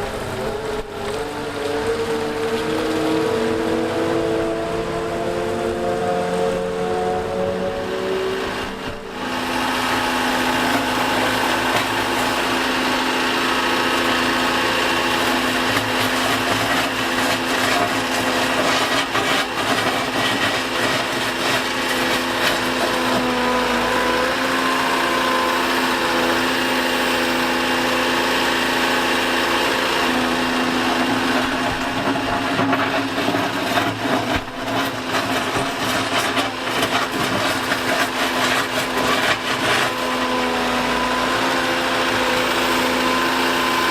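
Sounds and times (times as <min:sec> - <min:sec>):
excavator engine and hydraulics whining: 0:00.0 - 0:43.9.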